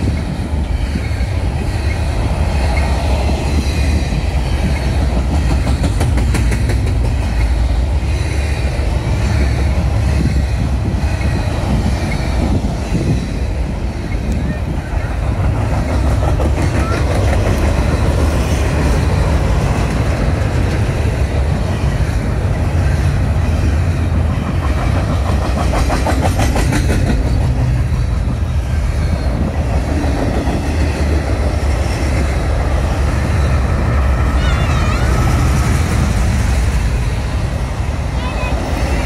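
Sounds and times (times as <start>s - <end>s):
freight train rumbling past: 0.0s - 39.0s
wheels clickety-clack: 0.0s - 39.0s.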